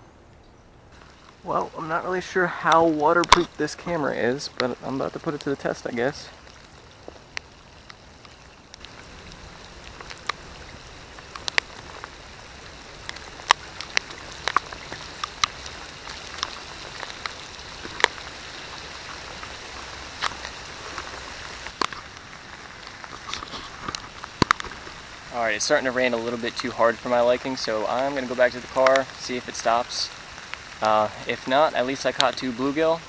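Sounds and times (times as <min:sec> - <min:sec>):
rain hiss: 0:00.0 - 0:33.0
raindrops tapping near microphone: 0:00.2 - 0:33.0.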